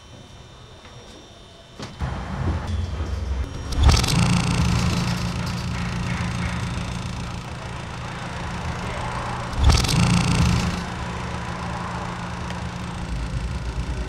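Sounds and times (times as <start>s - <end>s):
small electric motor humming: 0.0s - 14.0s
hissing noise: 2.0s - 14.0s.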